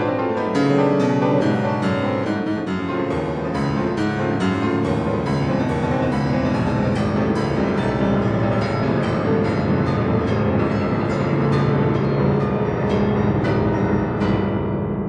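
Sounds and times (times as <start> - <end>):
solo piano chords: 0.0 - 15.0.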